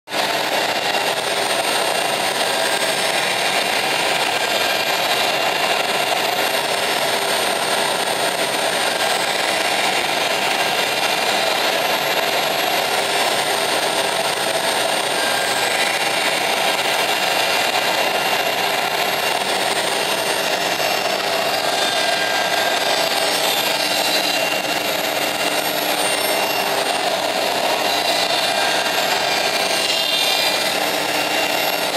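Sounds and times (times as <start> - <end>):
router spindle milling with whine: 0.2 - 31.9.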